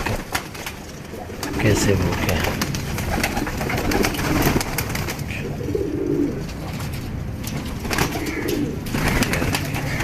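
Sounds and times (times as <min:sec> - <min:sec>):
birds pecking at grain: 0:00.0 - 0:10.0
pigeons cooing: 0:00.0 - 0:10.0.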